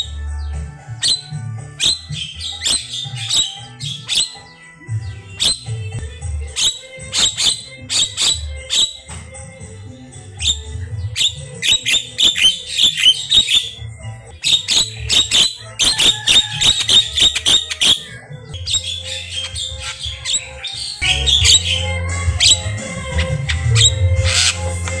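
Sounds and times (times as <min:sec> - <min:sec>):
myna chattering song: 0:00.0 - 0:25.0.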